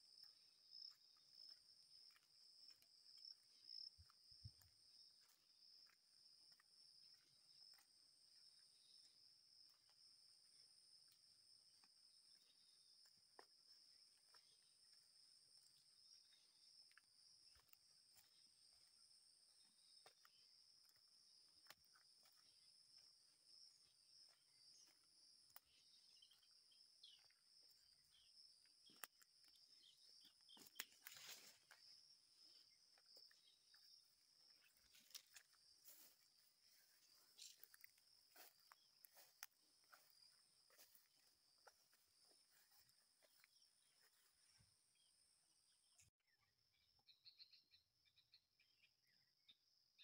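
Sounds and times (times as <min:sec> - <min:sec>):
footsteps on leafy dirt path: 0:00.0 - 0:44.6
high-pitched insect chorus: 0:00.0 - 0:45.1.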